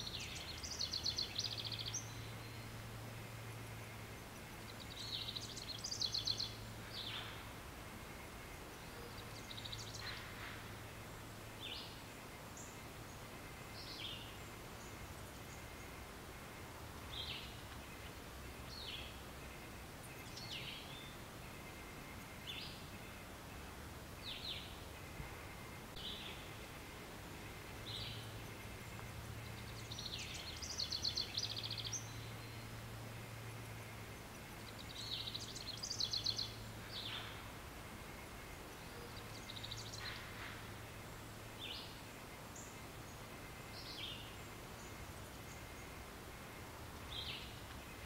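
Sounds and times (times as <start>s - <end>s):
background hiss: 0.0s - 48.0s
birds chirping: 0.0s - 48.0s.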